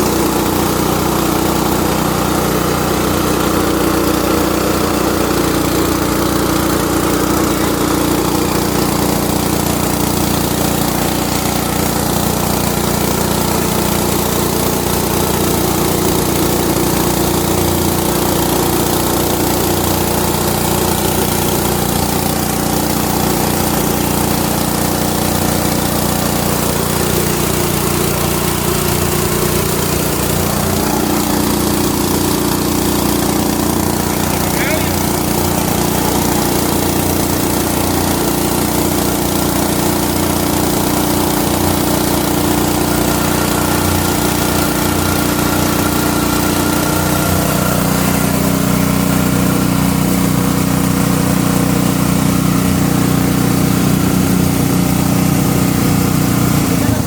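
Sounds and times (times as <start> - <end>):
rice mill engine running: 0.0 - 57.0.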